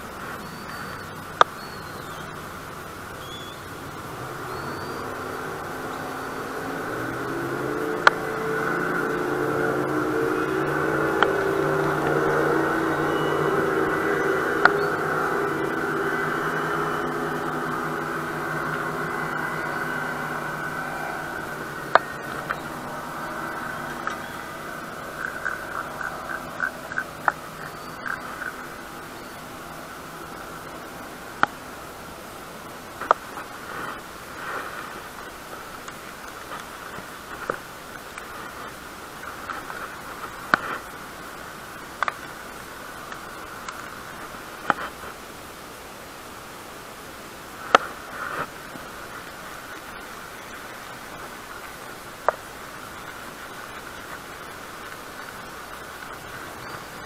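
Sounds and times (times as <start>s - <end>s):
faint hum: 0.0s - 57.0s
steady hiss: 0.0s - 57.0s.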